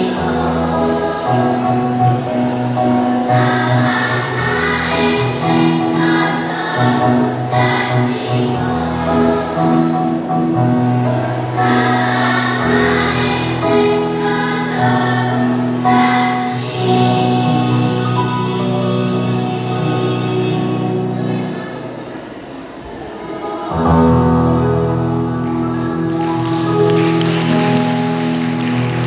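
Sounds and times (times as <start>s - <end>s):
children's choir singing: 0.0s - 29.0s.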